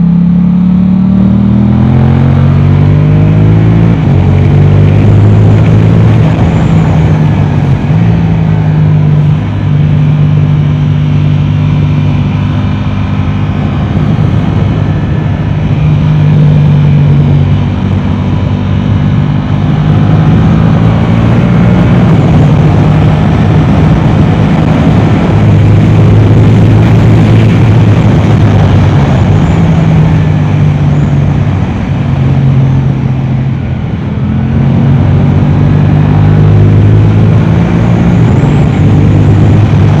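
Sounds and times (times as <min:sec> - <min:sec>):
motorcycle engine at speed: 0:00.0 - 0:40.0.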